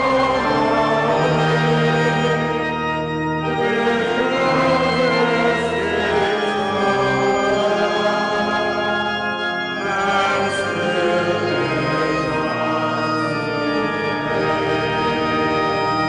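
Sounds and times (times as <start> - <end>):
church organ playing hymn: 0.0 - 16.0
congregation singing: 0.0 - 16.0.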